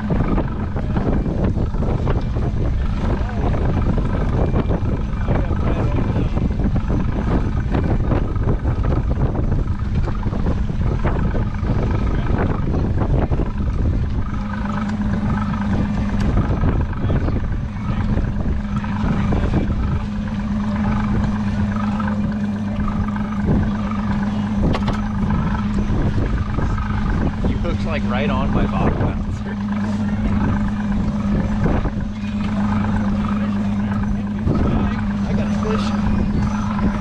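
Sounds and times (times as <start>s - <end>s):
boat motor running: 0.0s - 37.0s
steady hum: 0.0s - 37.0s
wind buffeting microphone: 0.0s - 37.0s.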